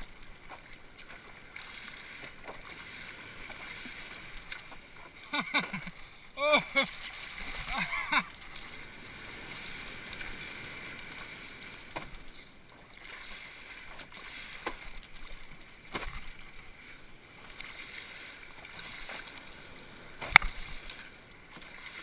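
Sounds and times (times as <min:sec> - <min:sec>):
water lapping against paddleboard: 0:00.0 - 0:22.0.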